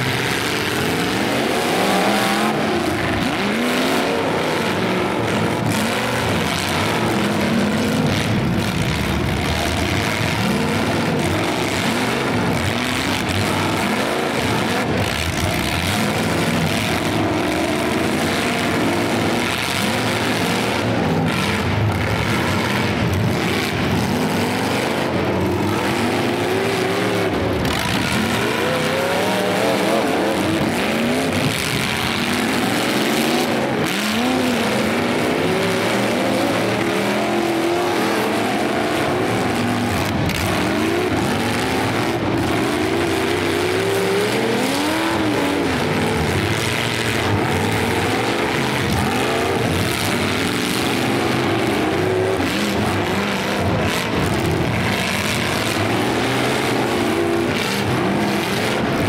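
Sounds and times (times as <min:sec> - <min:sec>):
car engines revving hard: 0:00.0 - 0:59.0.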